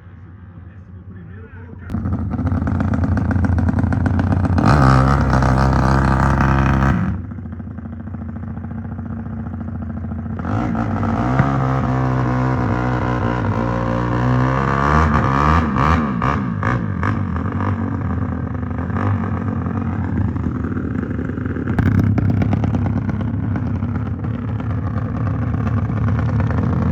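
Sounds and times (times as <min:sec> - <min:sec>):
motorcycle engine revving: 0:01.9 - 0:26.9.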